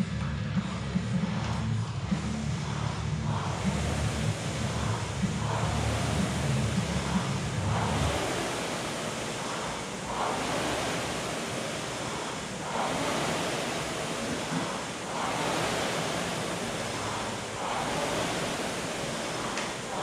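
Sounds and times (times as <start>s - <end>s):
exercise machine flywheel whooshing: 0.0s - 20.0s.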